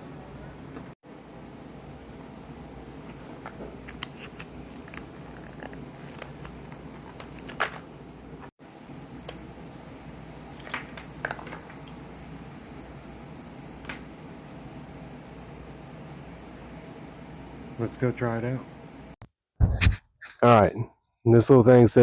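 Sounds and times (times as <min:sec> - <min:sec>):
low background hum: 0:00.0 - 0:19.2.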